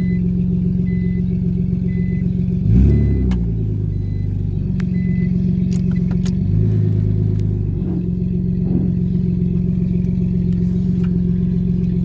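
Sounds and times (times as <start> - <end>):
loud car engine without exhaust: 0.0 - 12.0.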